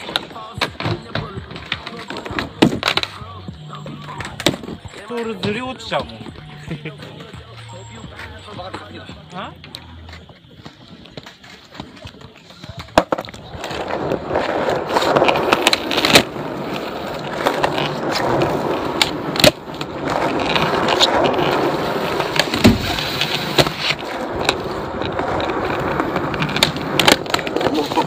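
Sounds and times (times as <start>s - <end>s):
skateboard clacking on ground: 0.0s - 28.0s
skateboard wheels rolling on asphalt: 0.0s - 28.0s.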